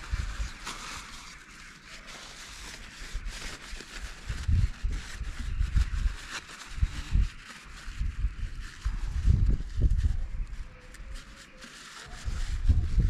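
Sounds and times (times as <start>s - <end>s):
scratchy rubbing: 0.0s - 13.0s.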